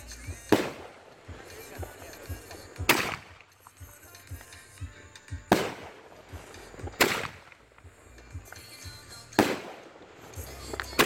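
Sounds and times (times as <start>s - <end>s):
firework shell bursts with echo: 0.0s - 7.8s, 8.4s - 11.0s.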